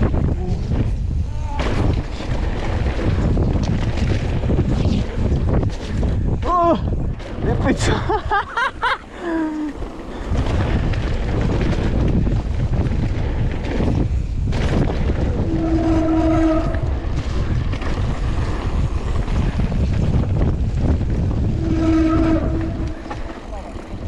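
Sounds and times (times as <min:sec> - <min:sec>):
mountain bike rumbling and rattling: 0:00.0 - 0:24.0
wind buffeting microphone: 0:00.0 - 0:24.0.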